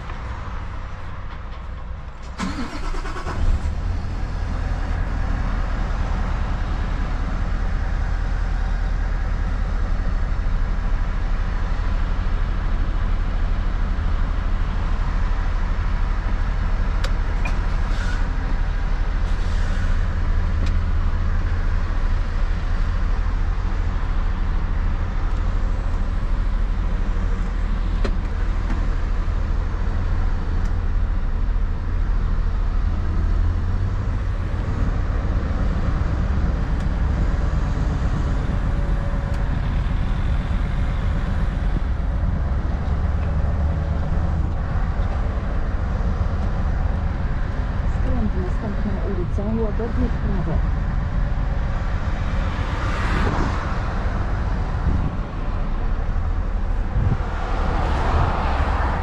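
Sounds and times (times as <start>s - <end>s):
diesel truck engine starting and running: 0.0s - 59.0s.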